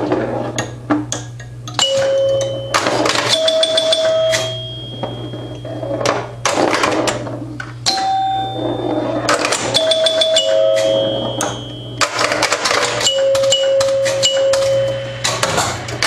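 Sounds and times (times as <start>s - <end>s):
electrical hum: 0.0s - 16.0s
pinball scoring chimes: 0.1s - 16.0s.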